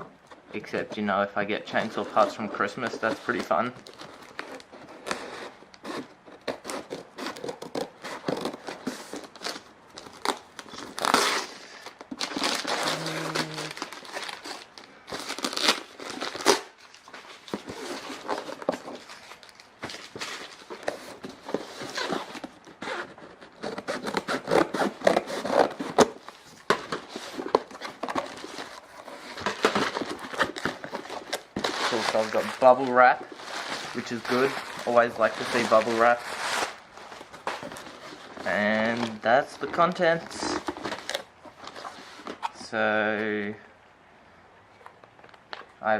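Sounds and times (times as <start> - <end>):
plastic and bubble wrap crinkling: 0.0 - 43.5
packaging tearing: 1.9 - 42.5.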